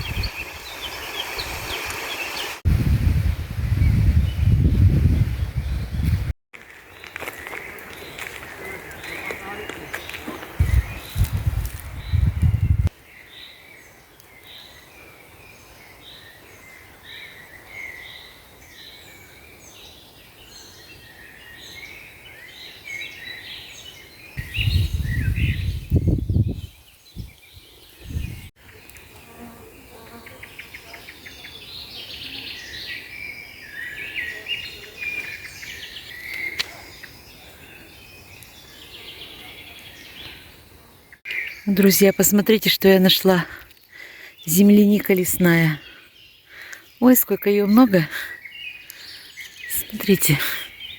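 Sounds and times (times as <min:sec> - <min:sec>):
small birds chirping: 0:00.0 - 0:02.6, 0:06.8 - 0:50.9.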